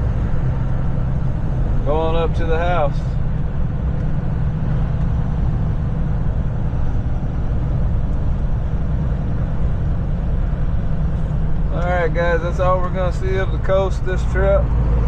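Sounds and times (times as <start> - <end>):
truck engine and tyre rumble: 0.0 - 15.0.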